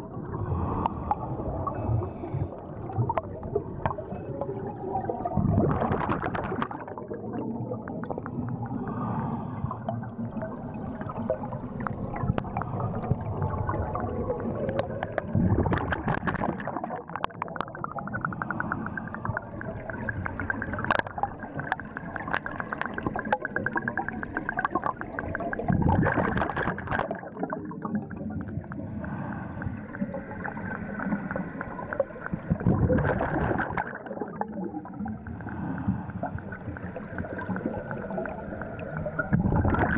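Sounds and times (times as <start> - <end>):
gurgling bubble crackle: 0.0 - 39.9
underwater exhaled bubbles: 0.0 - 39.9.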